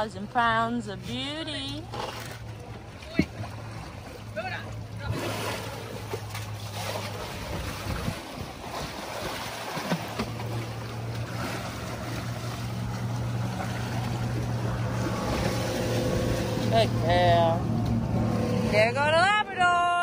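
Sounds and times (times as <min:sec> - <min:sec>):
boat motor idling: 0:00.0 - 0:20.0
elephant splashing through water: 0:01.6 - 0:18.9.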